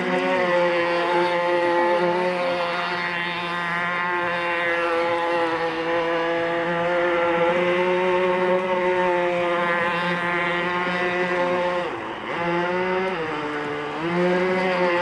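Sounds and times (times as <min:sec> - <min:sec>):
toy speedboat motor whining: 0:00.0 - 0:15.0.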